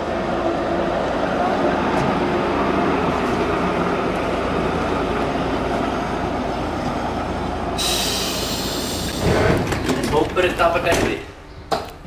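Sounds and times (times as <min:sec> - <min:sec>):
tram rolling on rails: 0:00.0 - 0:12.0.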